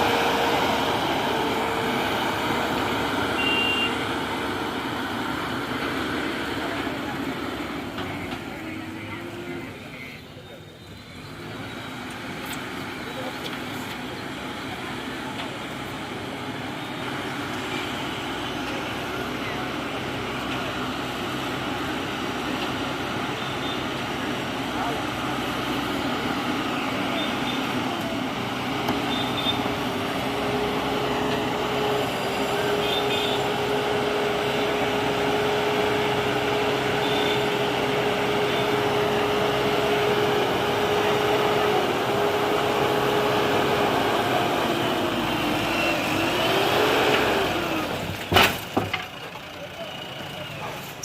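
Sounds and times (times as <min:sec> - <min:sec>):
diesel engine running: 0:00.0 - 0:10.5, 0:11.2 - 0:51.0.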